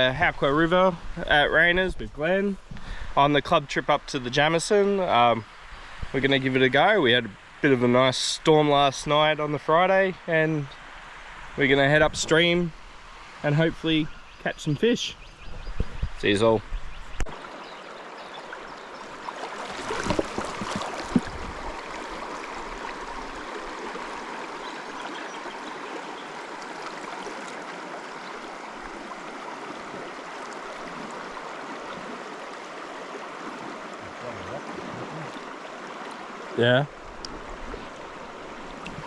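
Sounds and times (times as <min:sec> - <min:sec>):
river water flowing: 0:02.2 - 0:15.4, 0:17.2 - 0:39.0.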